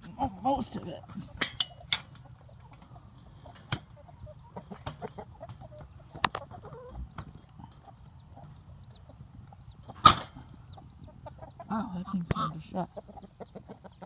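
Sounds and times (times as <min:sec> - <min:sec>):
chickens clucking softly: 0:00.0 - 0:14.0.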